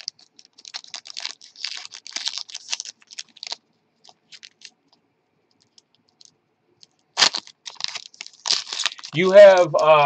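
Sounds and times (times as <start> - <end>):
foil pack crinkling: 0.0 - 4.8, 5.6 - 10.0.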